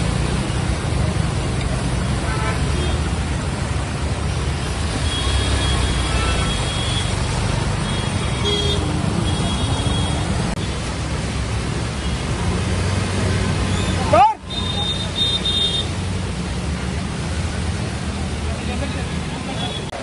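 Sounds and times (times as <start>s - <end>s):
water rushing and tyre noise: 0.0s - 20.0s.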